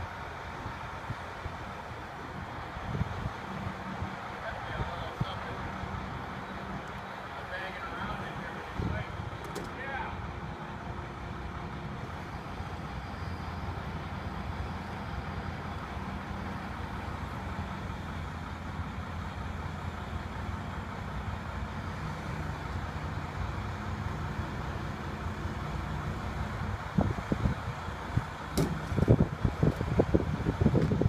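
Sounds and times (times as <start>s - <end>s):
crane engine running under load: 0.0s - 31.0s.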